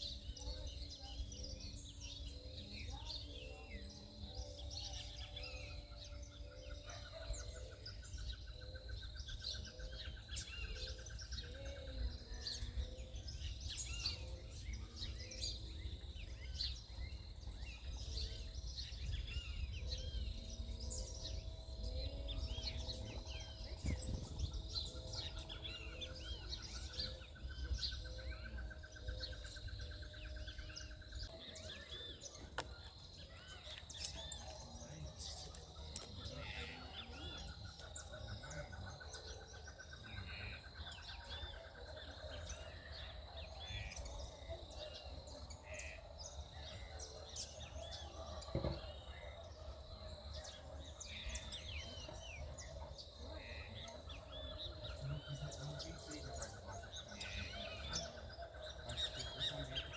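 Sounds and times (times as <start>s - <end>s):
bird trill: 0.0s - 59.9s
birds chirping: 0.0s - 59.9s.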